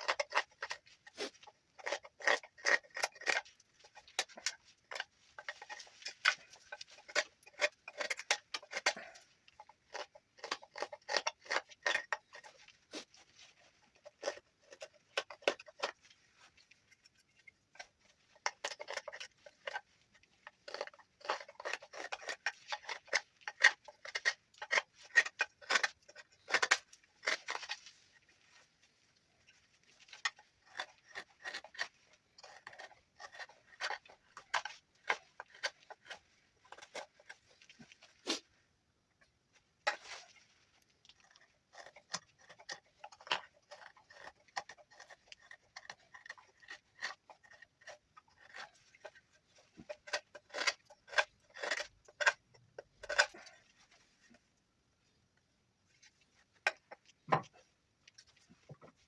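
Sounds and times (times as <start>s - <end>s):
knife carving wood: 0.0s - 59.0s.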